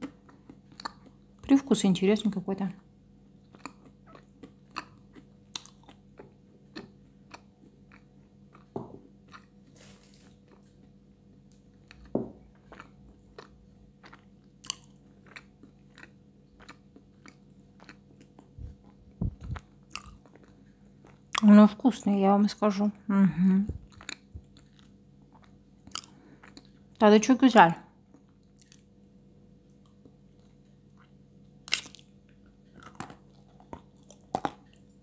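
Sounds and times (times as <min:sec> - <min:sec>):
crunchy chewing: 0:00.0 - 0:01.4, 0:03.4 - 0:21.5, 0:23.8 - 0:27.0, 0:28.1 - 0:28.9, 0:29.7 - 0:35.0.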